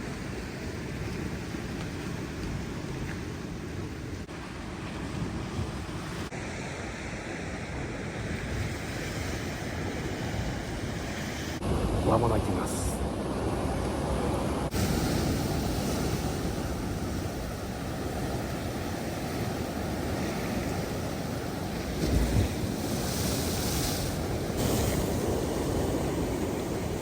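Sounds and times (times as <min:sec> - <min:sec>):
surf on rocky shore: 0:00.0 - 0:27.0.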